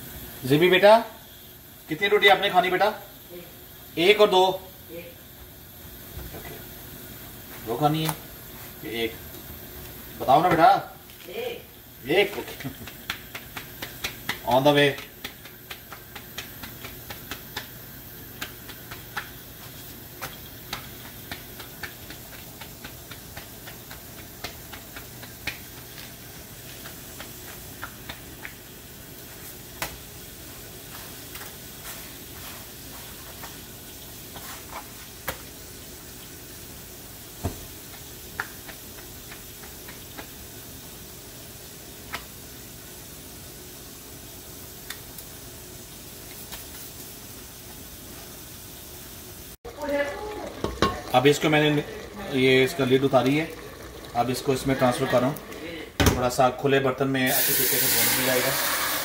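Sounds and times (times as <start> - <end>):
flatbread cooking on hot pan: 0.0 - 59.0.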